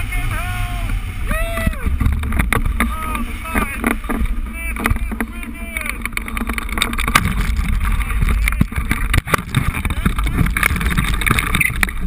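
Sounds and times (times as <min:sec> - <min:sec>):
wind rushing over microphone: 0:00.0 - 0:12.0
sharp knocks and rattles: 0:01.6 - 0:12.0.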